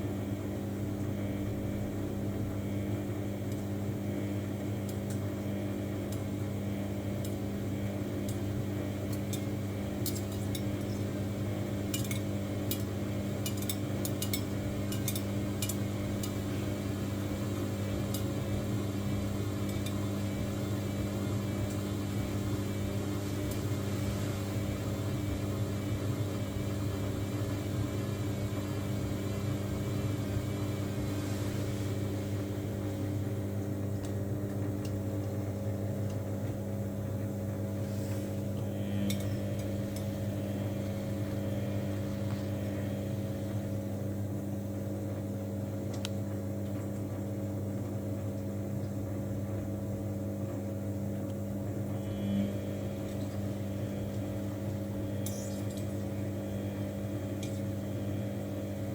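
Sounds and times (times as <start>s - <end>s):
washing machine motor hum: 0.0s - 58.9s.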